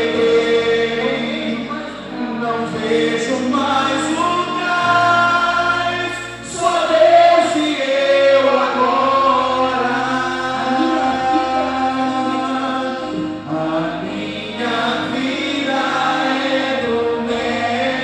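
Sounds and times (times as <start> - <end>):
choir singing gospel: 0.0 - 18.0
instrumental backing: 0.0 - 18.0.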